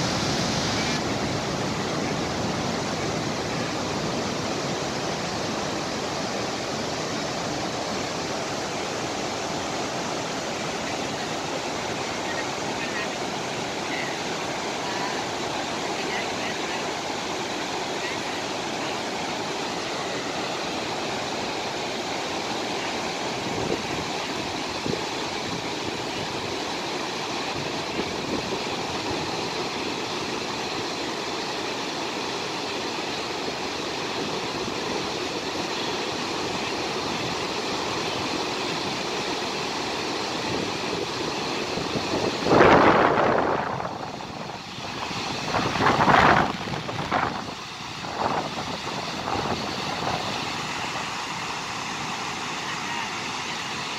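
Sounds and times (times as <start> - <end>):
waterfall roaring: 0.0 - 53.9.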